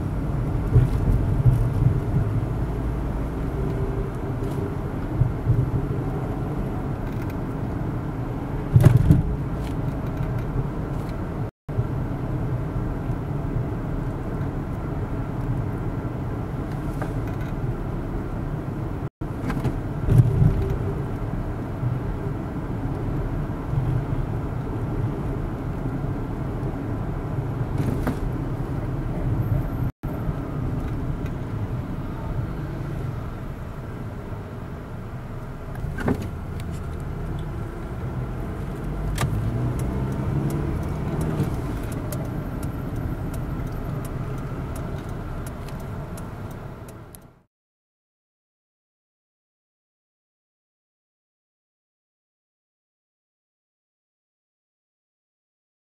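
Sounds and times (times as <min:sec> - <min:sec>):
car cabin road rumble: 0:00.0 - 0:47.5.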